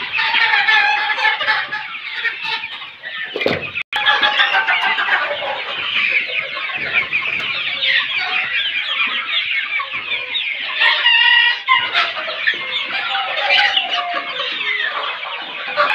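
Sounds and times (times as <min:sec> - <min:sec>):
chickens clucking: 0:00.0 - 0:15.9.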